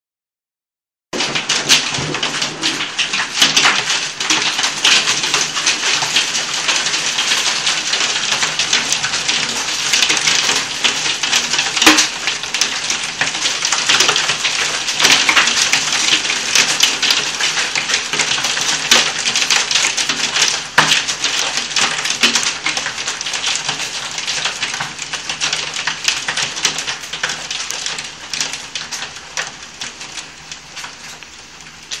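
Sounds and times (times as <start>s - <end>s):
hailstones striking window glass: 1.2s - 29.2s
heavy rain: 1.2s - 32.0s.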